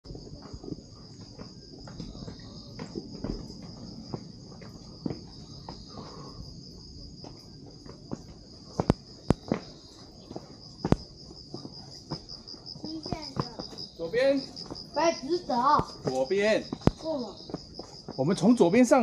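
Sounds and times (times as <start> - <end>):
footsteps: 0.1 - 19.0
night insects trilling: 0.1 - 19.0.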